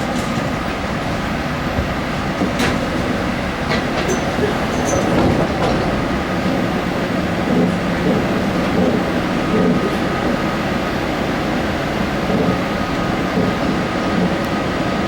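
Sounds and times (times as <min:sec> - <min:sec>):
subway car rumbling on track: 0:00.0 - 0:15.0.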